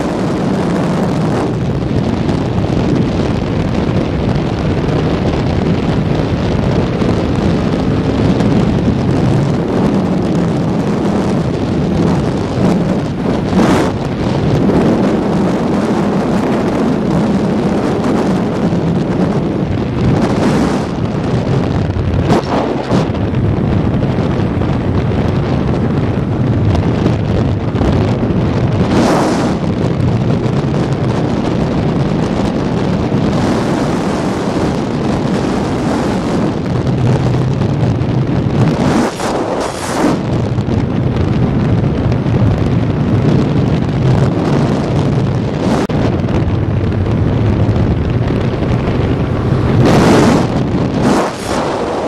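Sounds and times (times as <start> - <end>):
motorcycle engine: 0.0 - 52.0
wind buffeting microphone: 0.0 - 52.0.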